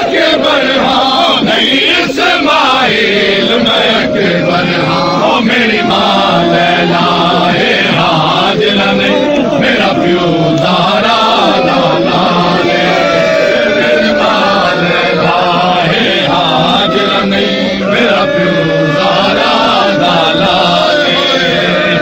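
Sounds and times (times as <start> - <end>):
men chanting and calling out: 0.0 - 22.0.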